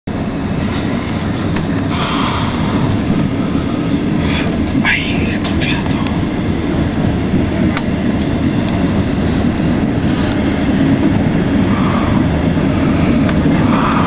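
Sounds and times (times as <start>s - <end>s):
train wheels rumbling on rails: 0.1s - 14.0s.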